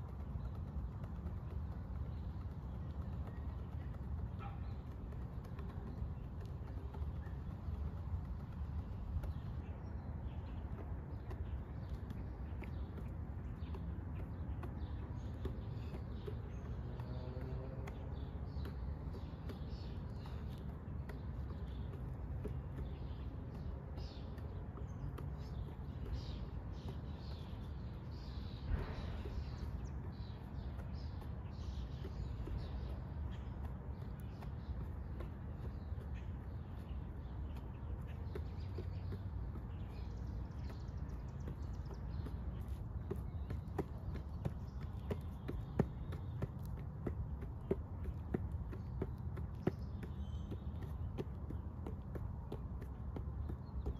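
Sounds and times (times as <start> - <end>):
hands tapping basketball: 0.0 - 53.9
faint bird chirps: 1.4 - 46.5.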